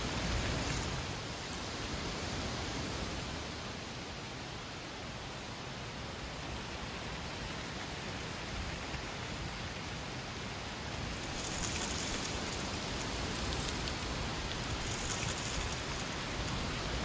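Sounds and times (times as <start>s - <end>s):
wind rushing in trees: 0.0s - 17.0s.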